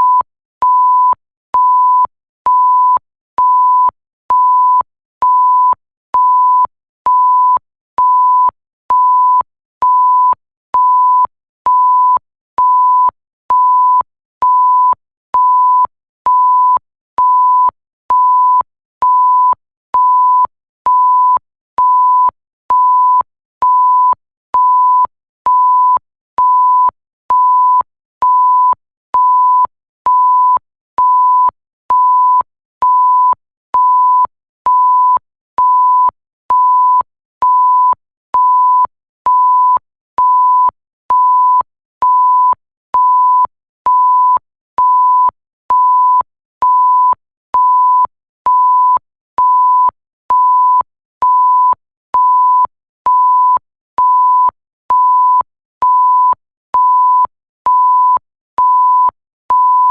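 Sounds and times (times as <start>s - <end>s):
repeated pure tone beeps: 0.0s - 59.9s.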